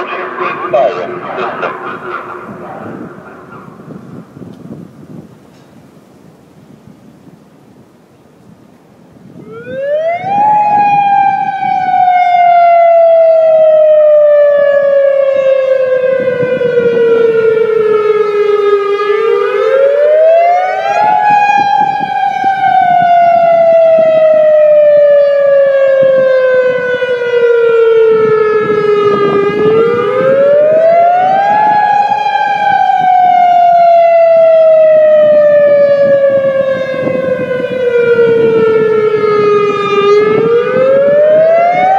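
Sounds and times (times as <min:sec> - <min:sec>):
warning siren rising and falling: 0:00.0 - 0:04.4, 0:09.3 - 0:41.9.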